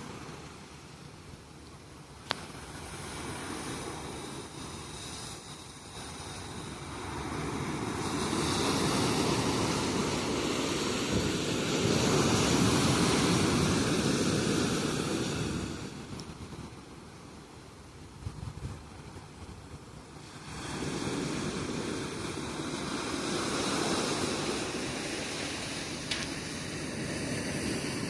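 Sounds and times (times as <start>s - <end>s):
sea waves breaking: 2.1s - 28.0s.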